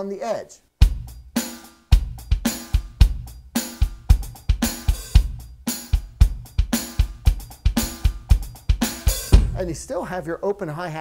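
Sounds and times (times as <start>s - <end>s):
electronic drum groove: 0.8s - 10.2s.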